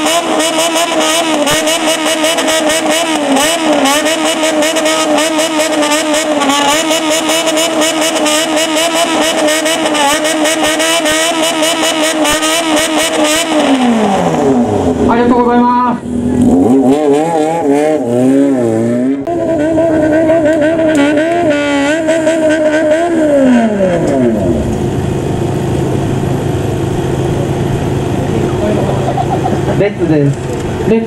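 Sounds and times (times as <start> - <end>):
exhaust cracks: 0.0 - 31.0
motorcycle engine revving: 0.0 - 31.0.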